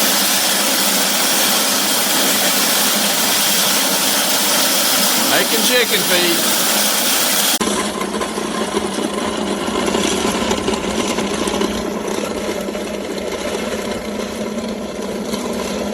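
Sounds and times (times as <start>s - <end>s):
electric grain mill grinding: 0.0s - 15.9s.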